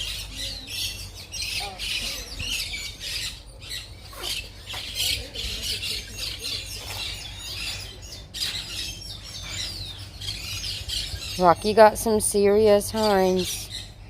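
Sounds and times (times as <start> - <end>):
flock of birds squawking: 0.0 - 14.0.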